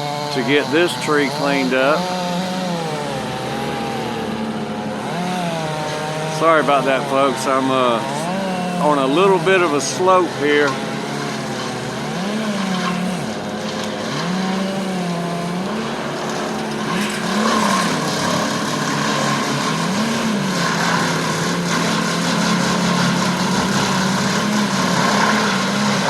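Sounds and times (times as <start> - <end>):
chainsaw cutting wood: 0.0 - 26.0.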